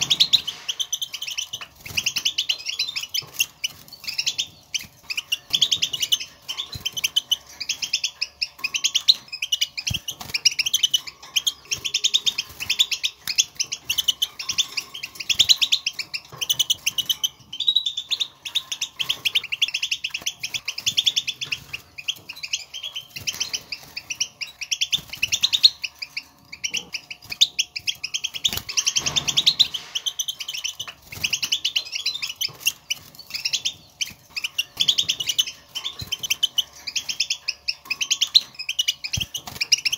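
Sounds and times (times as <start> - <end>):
goldfinch twittering: 0.0 - 39.9.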